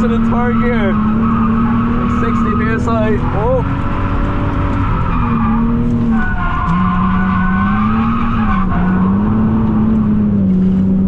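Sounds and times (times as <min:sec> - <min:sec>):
car engine at high revs: 0:00.0 - 0:11.0
tyre squeal: 0:00.3 - 0:09.5.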